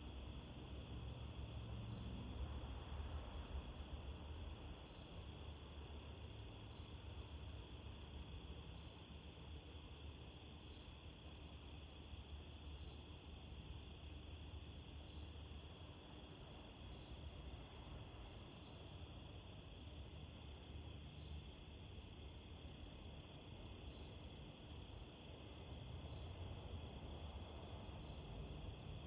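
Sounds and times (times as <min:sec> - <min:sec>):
night insects chirping: 0:00.0 - 0:29.0.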